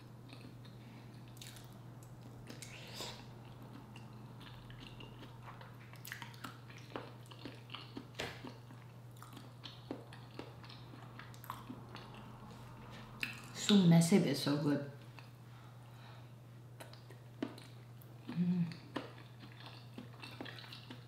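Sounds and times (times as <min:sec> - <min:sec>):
steady low hum: 0:00.0 - 0:21.0
chewing food: 0:00.2 - 0:13.6, 0:16.8 - 0:21.0.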